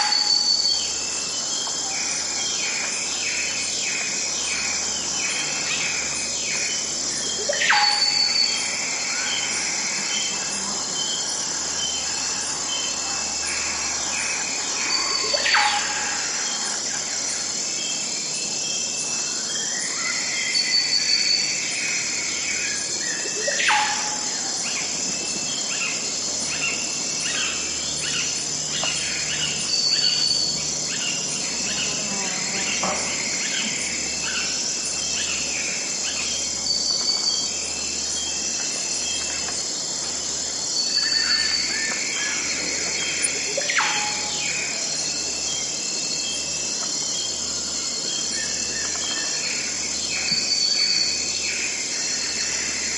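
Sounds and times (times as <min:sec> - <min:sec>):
high-pitched insect drone: 0:00.0 - 0:52.9
songbirds calling: 0:00.0 - 0:52.9.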